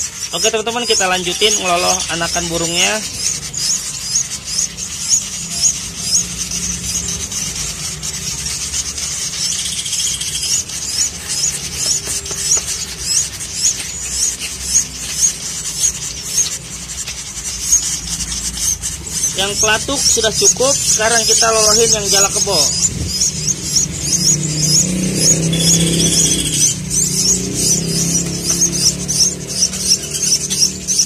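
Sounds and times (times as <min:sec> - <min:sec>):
nestling birds chirping: 0:00.0 - 0:31.0.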